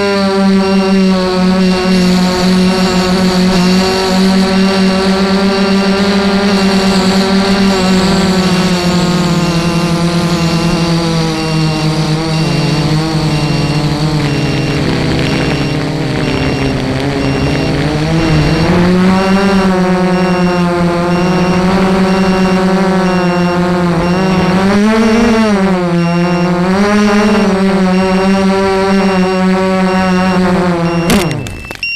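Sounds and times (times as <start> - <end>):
quadcopter motors whirring: 0.0 - 31.9.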